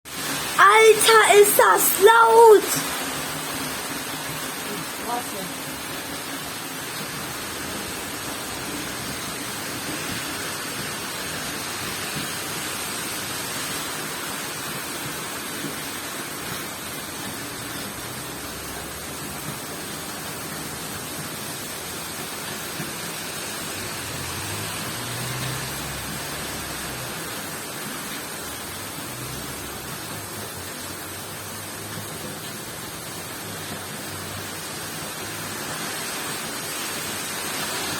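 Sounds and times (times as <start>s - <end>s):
heavy rain pouring: 0.1s - 37.9s.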